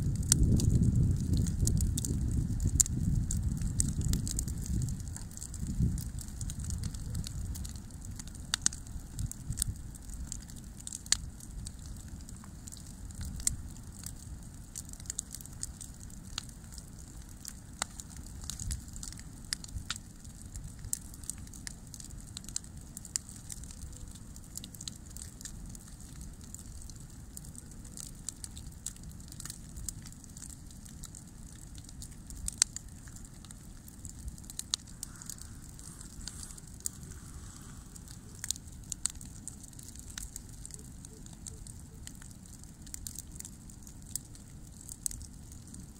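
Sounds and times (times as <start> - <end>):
fire low rumble: 0.0 - 45.9
wood crackling and popping: 0.0 - 45.9.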